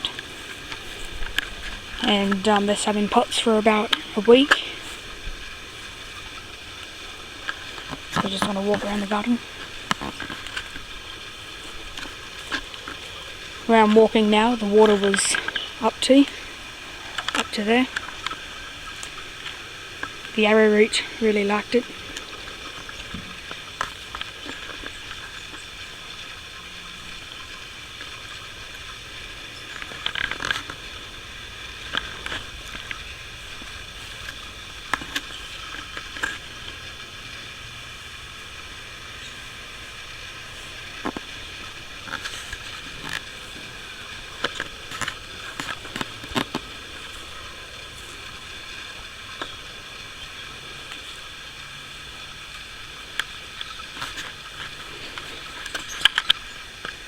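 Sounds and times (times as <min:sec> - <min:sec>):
footsteps rustling through plants: 0:00.0 - 0:26.5, 0:27.2 - 0:51.5
high-pitched outdoor hiss: 0:00.0 - 0:57.0.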